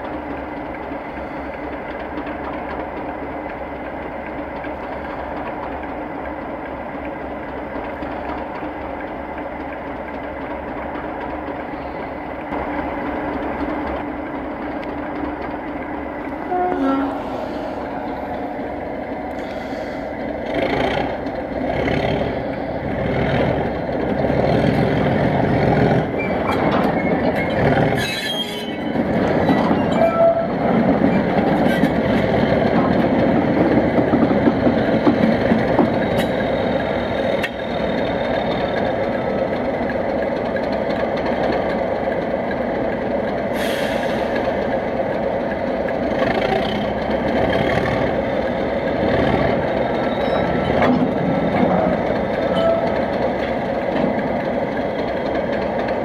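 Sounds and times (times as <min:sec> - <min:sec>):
diesel locomotive engines running: 0:00.0 - 0:56.0.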